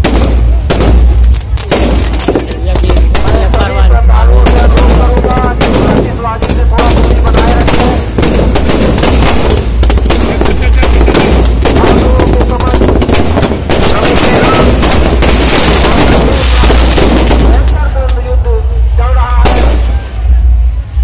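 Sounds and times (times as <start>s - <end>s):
fireworks exploding: 0.0s - 21.0s.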